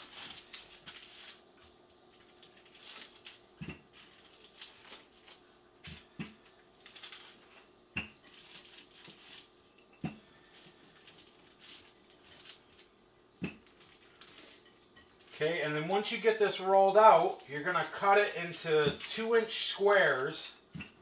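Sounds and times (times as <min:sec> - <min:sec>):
rolling pin on parchment paper: 0:00.0 - 0:21.0.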